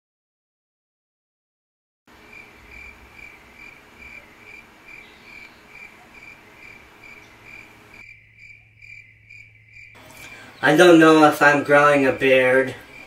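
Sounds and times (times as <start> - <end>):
faint low hum: 2.1 - 13.0
cricket chirping: 2.2 - 13.0.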